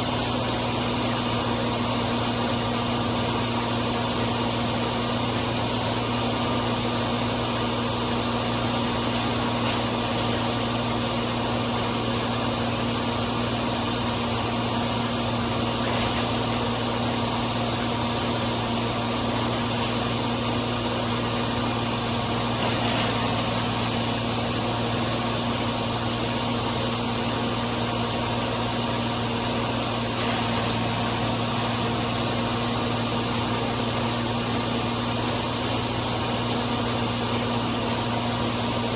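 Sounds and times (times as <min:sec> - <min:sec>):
diesel engine running: 0:00.0 - 0:38.9
grinder-mixer grinding corn: 0:00.0 - 0:38.9.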